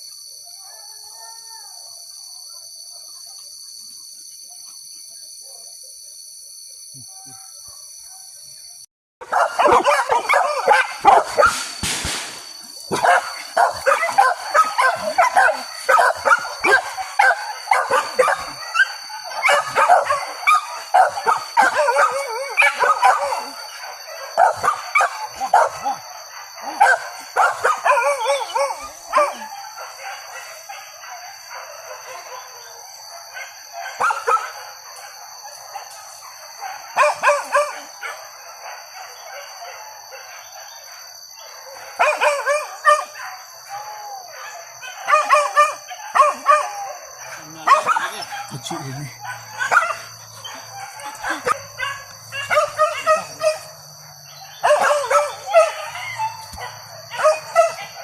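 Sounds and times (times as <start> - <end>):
dogs barking and howling: 0.0 - 4.7, 7.0 - 8.4, 9.2 - 58.0.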